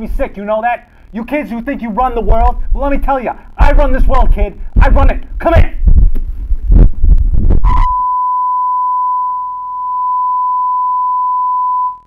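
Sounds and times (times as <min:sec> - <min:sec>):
steady test tone: 0:01.8 - 0:12.0.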